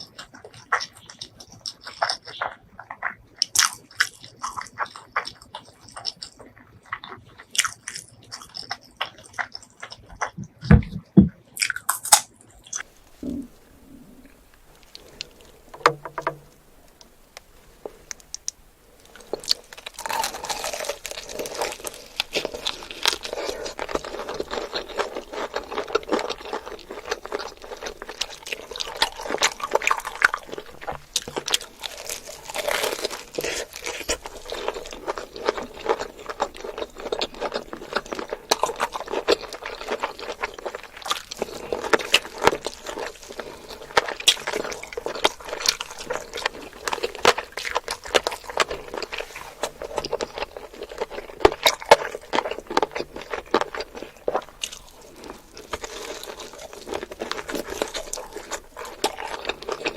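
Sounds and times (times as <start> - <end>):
food being chewed and crunched: 0.0 - 59.9.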